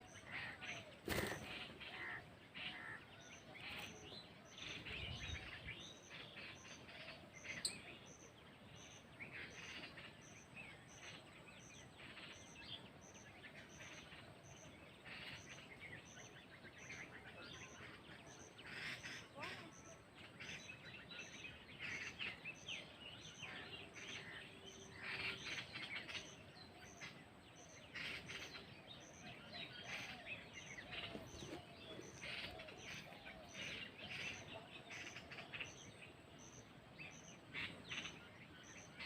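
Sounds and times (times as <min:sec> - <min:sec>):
birds chirping and calling: 0:00.0 - 0:39.0.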